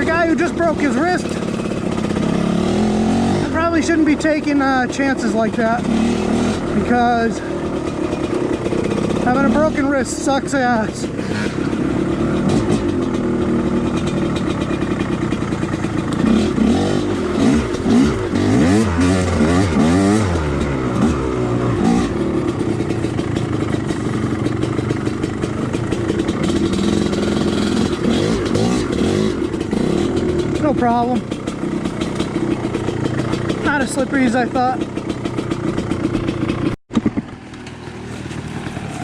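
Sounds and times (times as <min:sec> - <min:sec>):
two-stroke dirt bike engine revving: 0:00.0 - 0:39.0.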